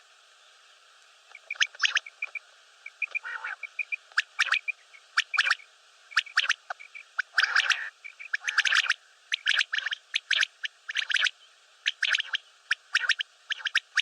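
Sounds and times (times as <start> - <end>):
faint rapid pips: 1.3 - 14.0
quail whistled calls: 1.3 - 14.0
rough low bird calls: 1.3 - 14.0.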